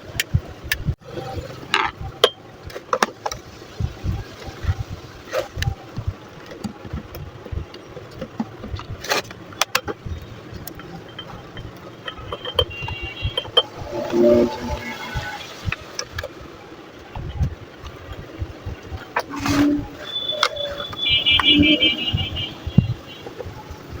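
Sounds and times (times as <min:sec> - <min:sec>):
sharp clicks and knocks: 0:00.0 - 0:01.0, 0:01.7 - 0:24.0.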